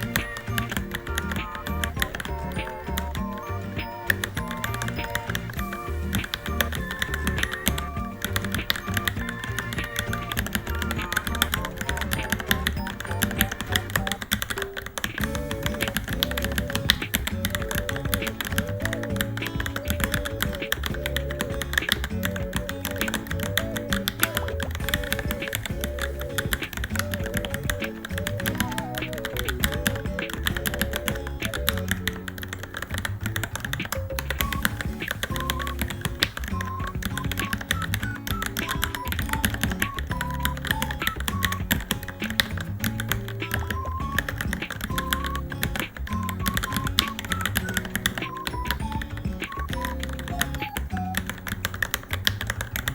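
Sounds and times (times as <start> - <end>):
background music with melody: 0.0 - 52.9
mechanical keyboard typing: 0.0 - 52.9.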